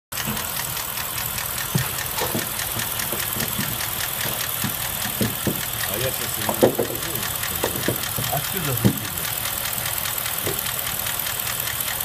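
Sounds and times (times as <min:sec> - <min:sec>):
engine idling with fast knock: 0:00.1 - 0:12.0.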